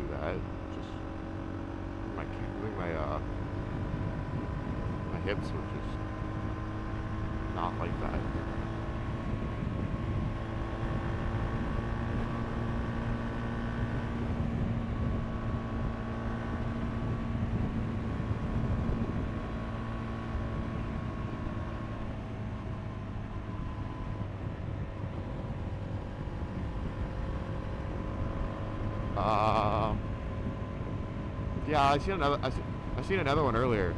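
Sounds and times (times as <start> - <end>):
motorcycle engine cruising: 0.0 - 33.9
road and wind rush: 0.0 - 33.9.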